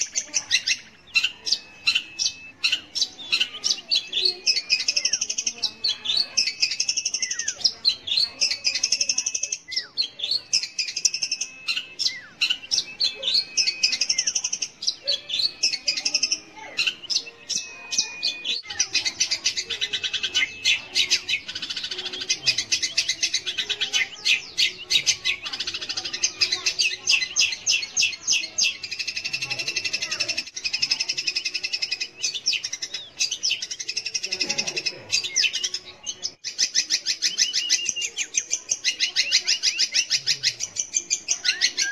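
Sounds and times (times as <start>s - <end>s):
bird singing scratchy notes: 0.0s - 41.9s.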